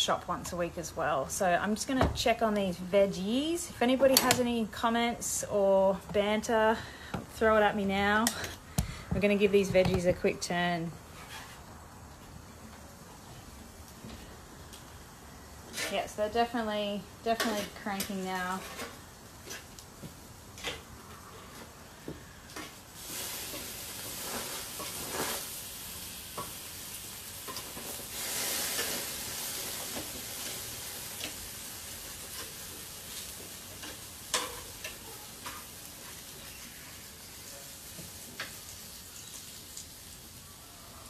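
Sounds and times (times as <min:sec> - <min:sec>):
vegetables sizzling on grill: 0:00.0 - 0:41.0.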